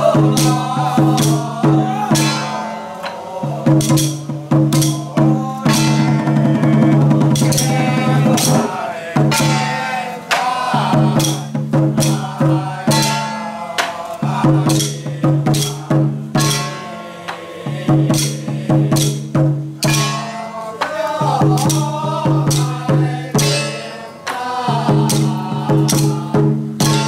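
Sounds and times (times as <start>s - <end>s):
drums and cymbals striking: 0.0s - 27.0s
sustained chant melody: 0.0s - 27.0s.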